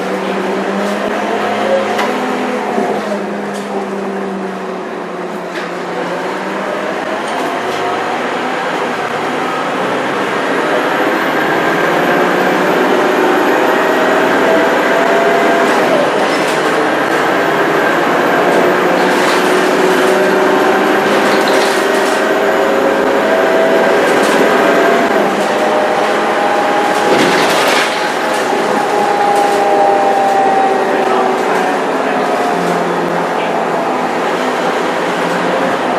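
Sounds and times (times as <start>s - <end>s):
bus engine and gearbox whine: 0.0s - 35.9s.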